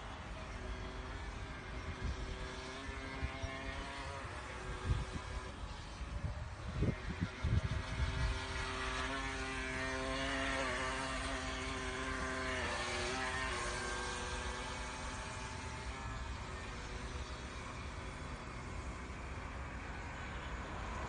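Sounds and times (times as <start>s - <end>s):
electric motor whining: 0.1s - 21.0s.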